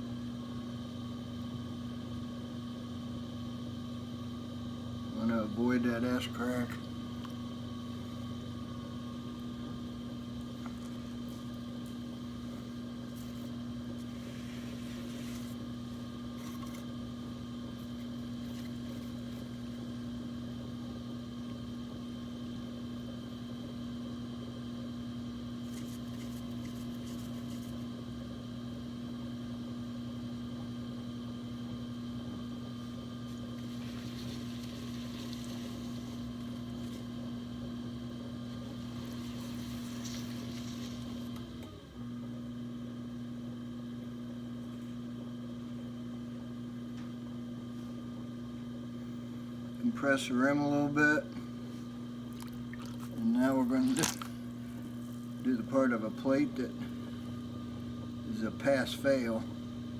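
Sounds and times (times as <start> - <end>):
potter's wheel motor humming: 0.0 - 59.9.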